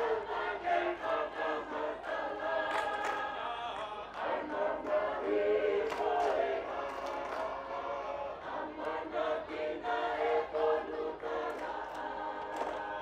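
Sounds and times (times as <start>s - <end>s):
group singing in harmony: 0.0s - 13.0s.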